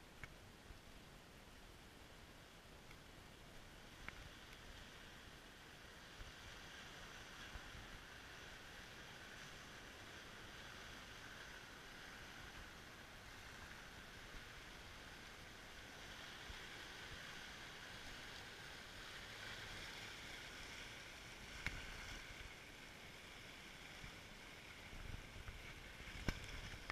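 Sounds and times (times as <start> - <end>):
small waves lapping over rocks: 3.5 - 26.9.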